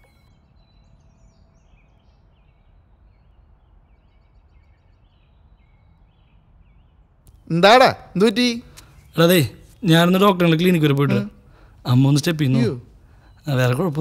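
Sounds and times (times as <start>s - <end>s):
low steady background noise: 0.0s - 14.0s
small birds chirping: 0.0s - 14.0s.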